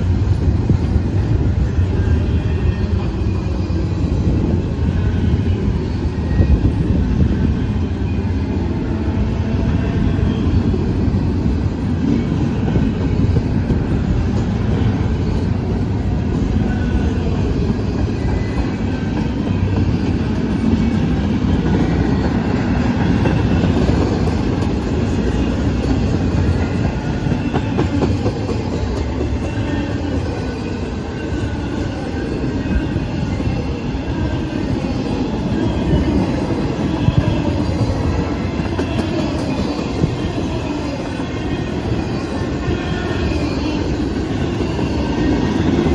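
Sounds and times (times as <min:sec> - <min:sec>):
freight train rumbling: 0:00.0 - 0:45.9.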